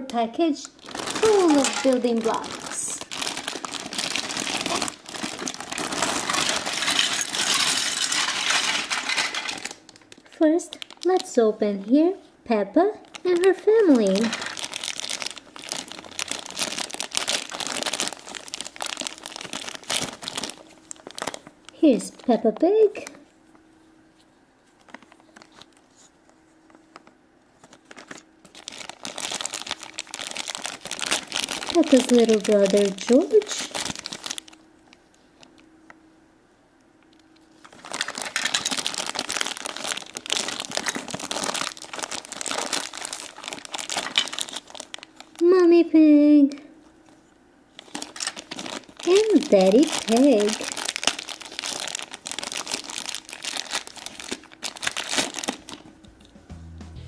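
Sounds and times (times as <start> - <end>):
packaging crinkling: 0.6 - 11.5, 13.0 - 23.7, 24.6 - 35.7, 37.0 - 45.5, 47.7 - 56.4.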